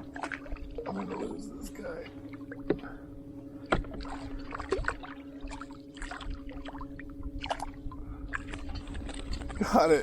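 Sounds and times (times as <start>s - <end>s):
water splashing against kayak: 0.0s - 2.9s, 3.7s - 9.8s
steady low hum: 0.0s - 10.0s.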